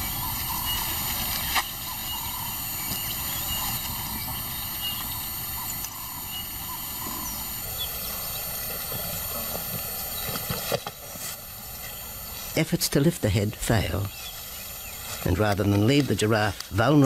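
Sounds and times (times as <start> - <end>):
steady noisy background: 0.0 - 17.0.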